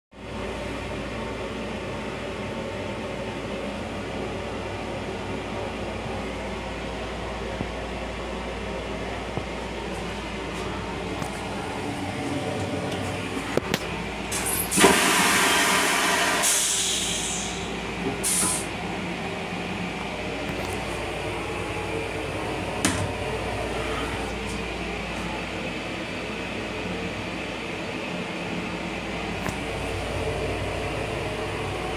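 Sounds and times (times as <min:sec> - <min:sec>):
railcar ventilation hum: 0:00.2 - 0:31.9.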